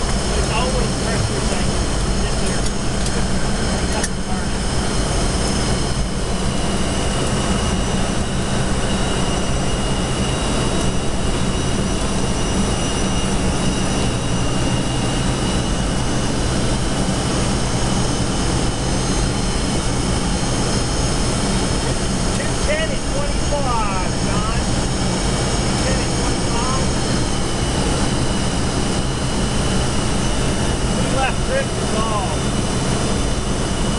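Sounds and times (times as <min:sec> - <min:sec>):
faint high whine: 0:00.0 - 0:33.9
jet engine and airflow rush: 0:00.0 - 0:33.9
low hum: 0:00.0 - 0:33.9.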